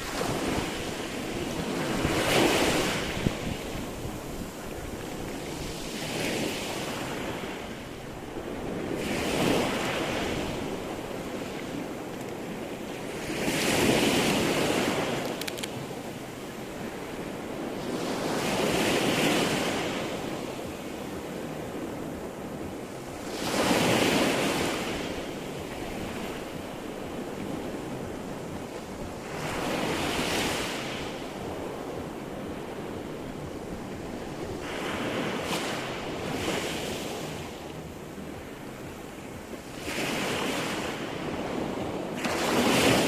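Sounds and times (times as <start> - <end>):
waves breaking: 0.0 - 43.0.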